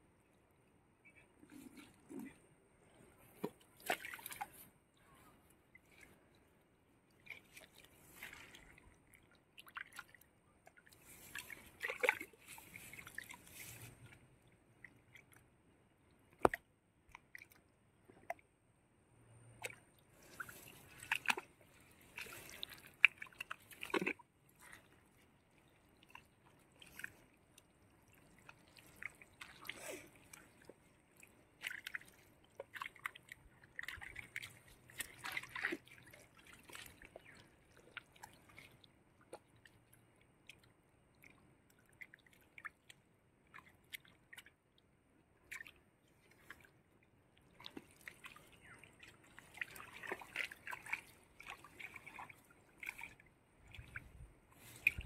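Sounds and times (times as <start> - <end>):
mud and water squelching: 1.1 - 6.3, 7.1 - 15.5, 19.4 - 55.0.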